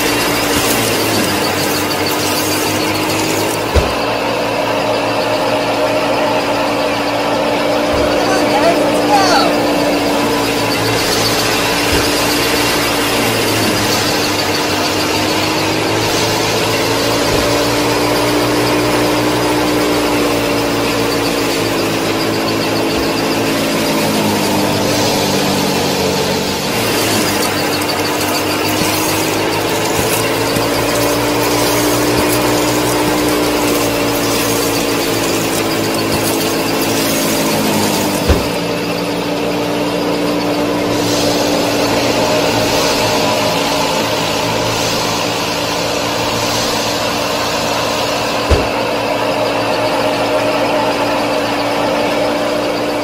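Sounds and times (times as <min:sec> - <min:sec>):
small motor whining: 0:00.0 - 0:53.0.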